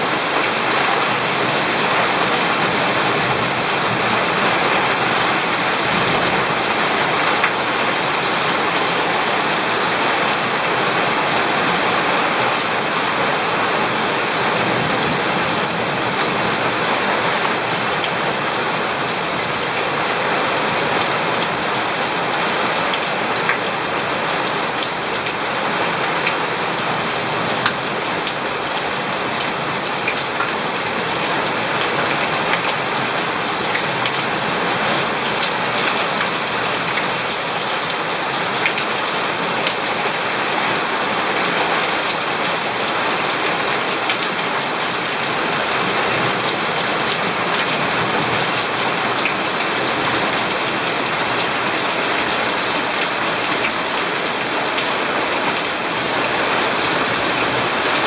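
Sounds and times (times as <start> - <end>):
water pouring off roof: 0.0 - 58.0.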